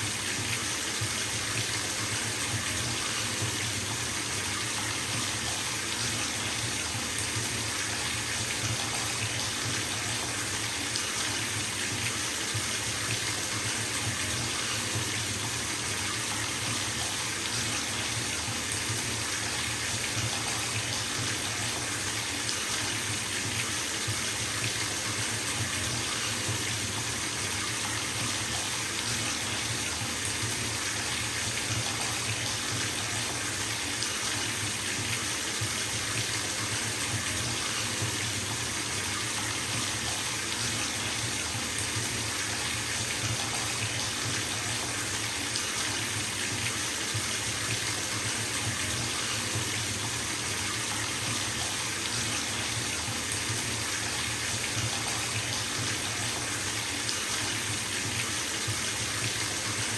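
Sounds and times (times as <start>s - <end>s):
water pouring into bathtub: 0.0s - 59.9s.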